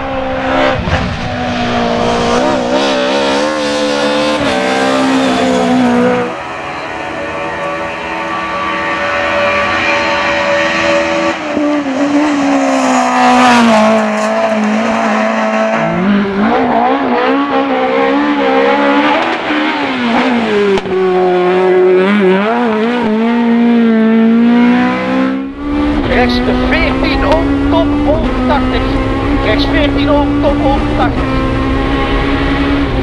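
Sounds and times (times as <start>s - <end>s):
rally car engine passing: 0.0s - 33.0s
rally car engine shifting gears: 0.0s - 33.0s.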